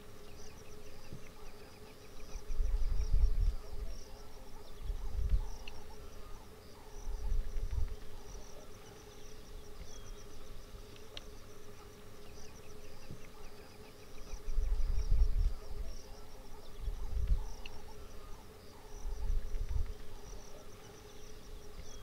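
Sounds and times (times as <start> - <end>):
faint steady hum: 0.0 - 22.0
insects chirping: 0.0 - 22.0.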